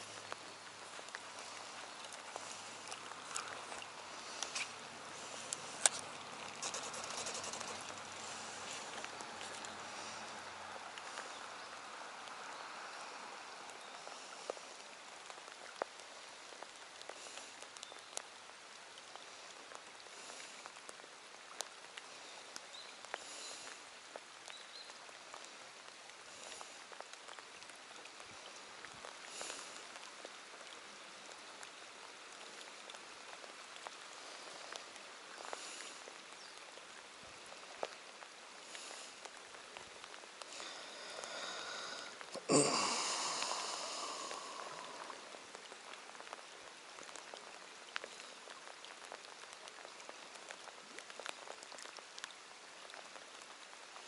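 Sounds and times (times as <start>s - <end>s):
rain falling on lake: 0.0s - 54.0s.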